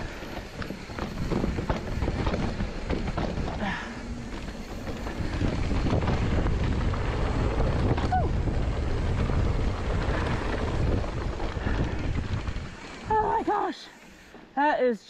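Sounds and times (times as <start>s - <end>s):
wind buffeting microphone: 0.0s - 13.6s
bike tyre and frame rumble: 0.0s - 14.6s.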